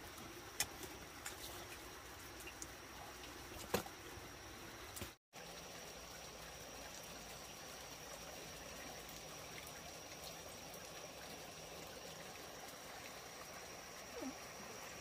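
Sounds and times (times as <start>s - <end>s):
faint running water: 0.0s - 15.0s.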